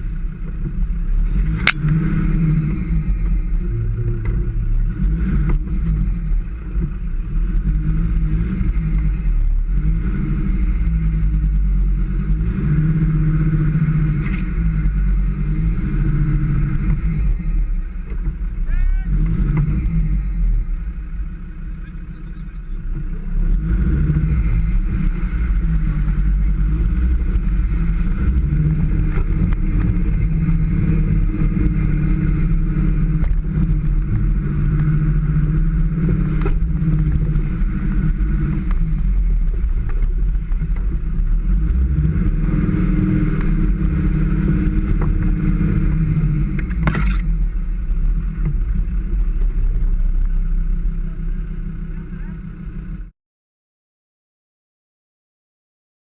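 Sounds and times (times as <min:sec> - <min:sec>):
car engine running under load: 0:00.0 - 0:53.1.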